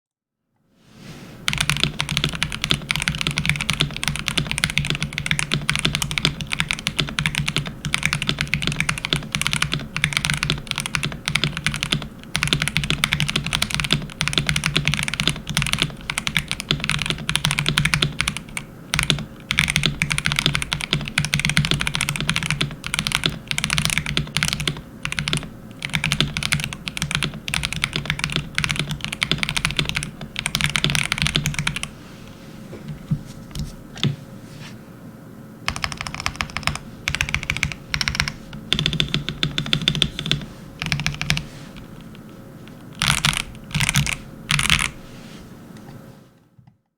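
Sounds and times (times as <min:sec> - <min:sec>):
mechanical keyboard typing: 0:01.5 - 0:31.9, 0:35.7 - 0:45.0.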